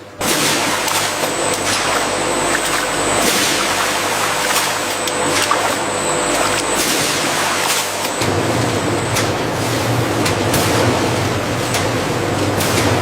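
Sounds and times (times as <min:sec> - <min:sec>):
industrial machine noise: 0:00.0 - 0:13.0.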